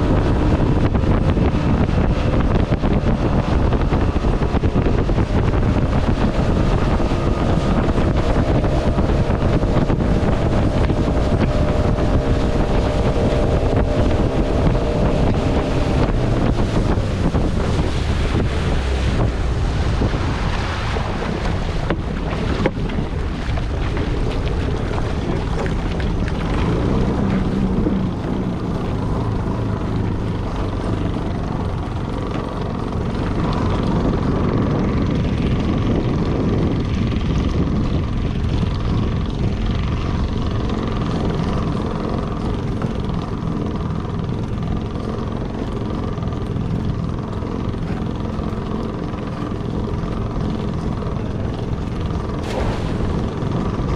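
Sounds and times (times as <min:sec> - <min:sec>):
boat motor running: 0:00.0 - 0:53.9
wind noise on microphone: 0:00.0 - 0:53.9.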